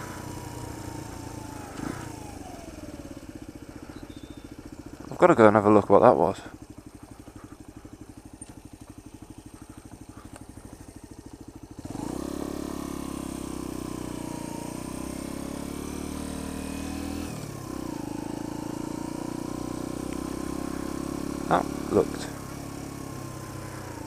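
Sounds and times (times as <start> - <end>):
motorcycle engine: 0.0 - 24.0.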